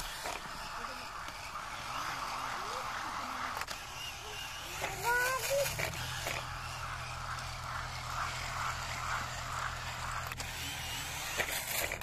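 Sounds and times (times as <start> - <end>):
toy electric motors whirring: 0.0 - 12.0.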